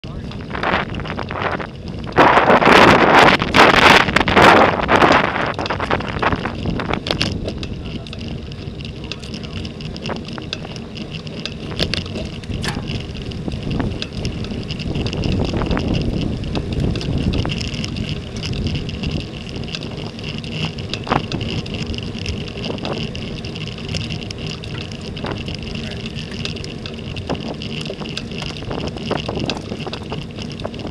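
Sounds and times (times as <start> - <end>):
tyre and road noise: 0.0 - 30.9
wind rushing over microphone: 0.0 - 30.9.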